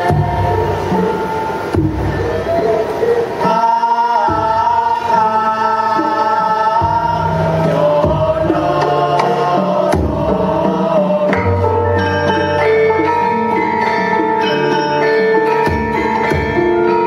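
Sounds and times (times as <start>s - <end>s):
vocal ensemble singing held notes: 0.0s - 17.0s.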